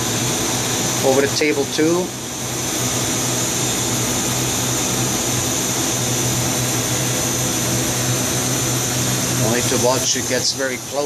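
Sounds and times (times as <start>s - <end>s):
machine hiss: 0.0s - 11.0s
machine mechanical hum: 0.0s - 11.0s.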